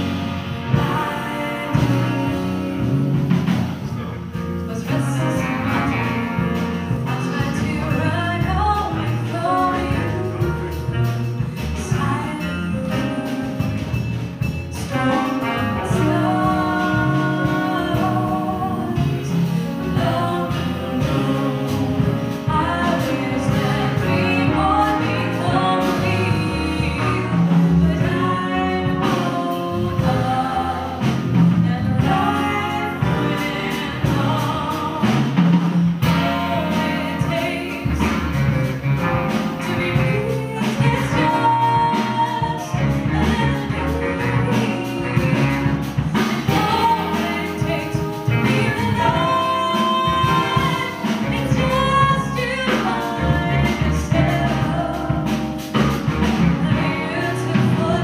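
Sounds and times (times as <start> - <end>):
jazz soul band playing: 0.0 - 58.0
woman singing: 0.7 - 2.9, 4.6 - 13.6, 14.7 - 58.0.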